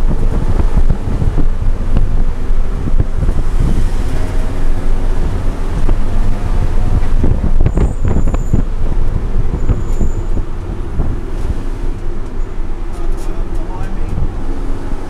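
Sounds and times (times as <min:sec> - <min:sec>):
car engine running under load: 0:00.0 - 0:15.0
road and wind noise: 0:00.0 - 0:15.0.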